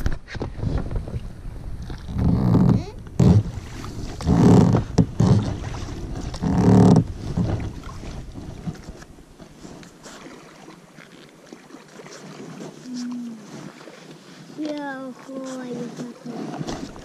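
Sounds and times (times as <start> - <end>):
oars creaking in oarlocks: 0.0 - 17.0
oar splashing water: 0.3 - 17.0.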